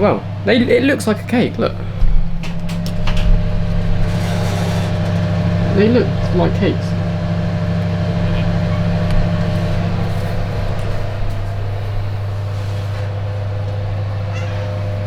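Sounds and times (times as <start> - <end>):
kitchen appliance electrical hum: 0.0 - 15.0.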